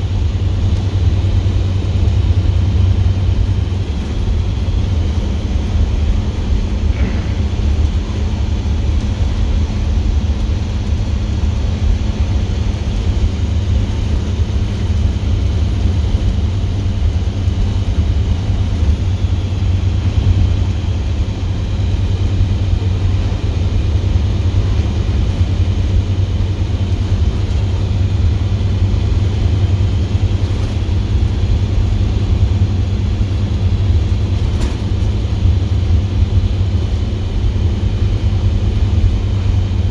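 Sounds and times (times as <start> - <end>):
diesel exhaust drone: 0.0 - 39.9.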